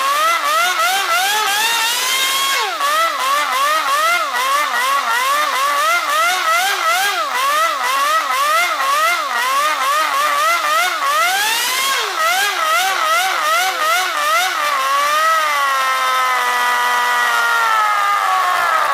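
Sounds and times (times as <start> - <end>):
model engine revving: 0.0 - 18.9.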